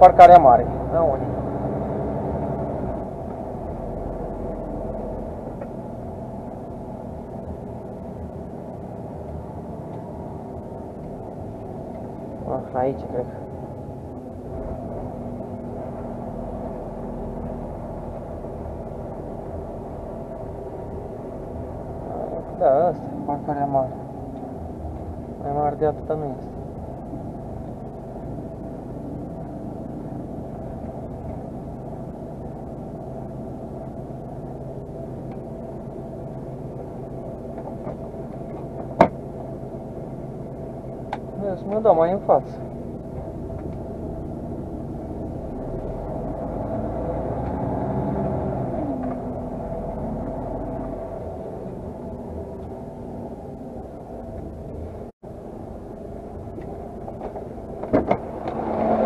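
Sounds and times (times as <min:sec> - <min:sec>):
diesel engine humming in cab: 0:00.0 - 0:59.0.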